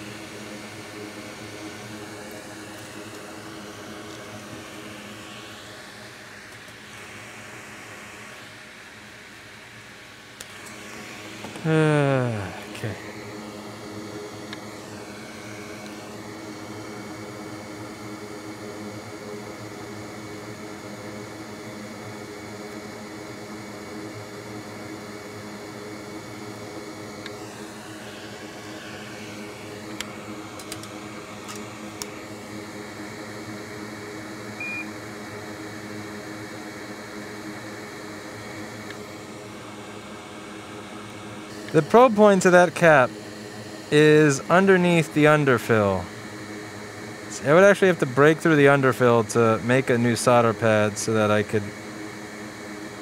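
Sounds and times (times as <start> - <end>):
fan whirring with low hum: 0.0 - 53.0.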